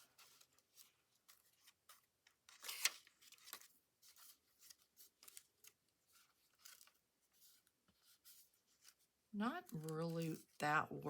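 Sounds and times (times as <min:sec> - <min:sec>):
paper pages rustling: 0:00.0 - 0:10.6.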